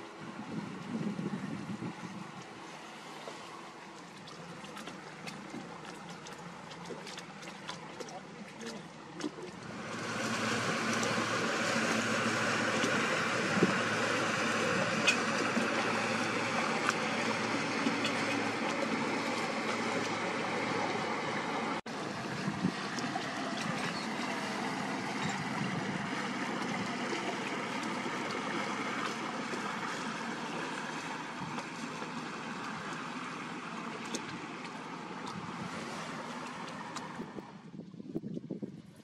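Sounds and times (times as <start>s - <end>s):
boat engine hum: 0.0s - 39.0s
wake water splashing: 0.0s - 39.0s.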